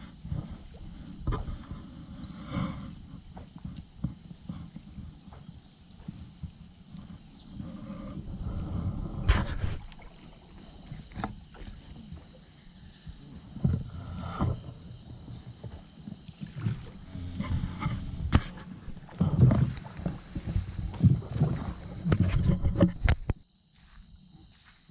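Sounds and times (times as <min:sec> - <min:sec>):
paddle knocking hull: 0:00.0 - 0:23.2
paddle splashing water: 0:00.0 - 0:23.3.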